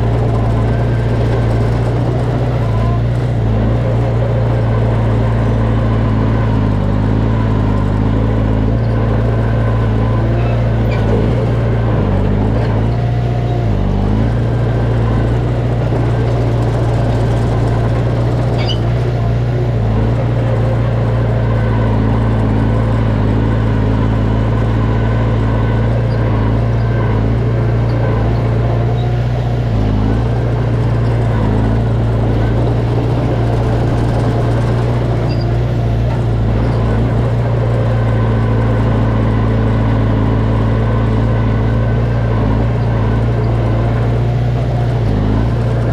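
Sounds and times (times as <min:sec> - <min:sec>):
heavy machinery diesel engine running: 0:00.0 - 0:45.9.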